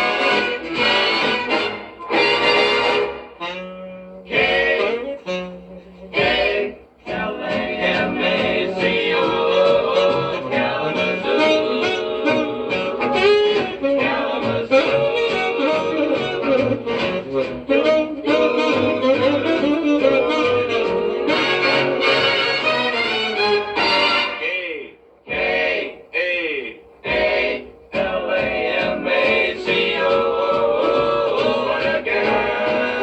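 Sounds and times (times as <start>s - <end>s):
big band swing music: 0.0s - 24.5s, 26.8s - 33.0s.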